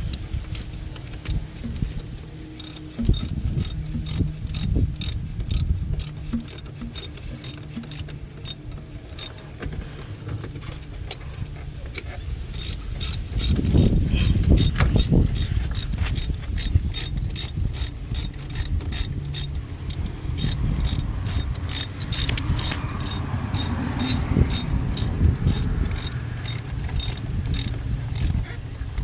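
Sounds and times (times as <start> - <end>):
ratchet wrench clicking: 0.0 - 9.4, 12.5 - 28.5.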